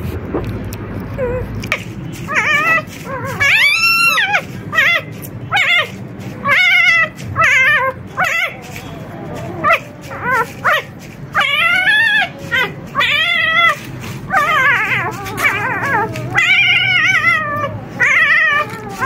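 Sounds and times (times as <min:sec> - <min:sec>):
puppies crying: 0:01.1 - 0:19.0.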